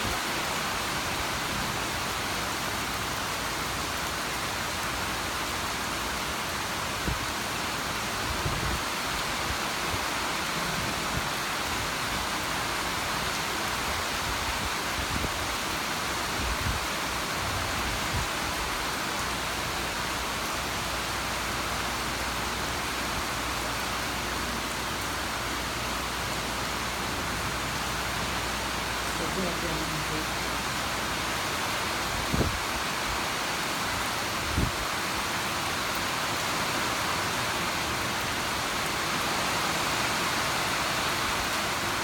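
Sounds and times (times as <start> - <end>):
steady rainfall: 0.0 - 42.0.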